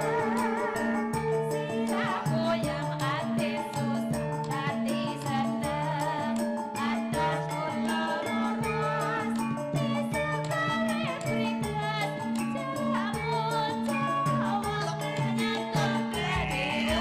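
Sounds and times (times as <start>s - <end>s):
gamelan and keyboard music: 0.0s - 17.0s
women singing into microphones: 0.0s - 17.0s.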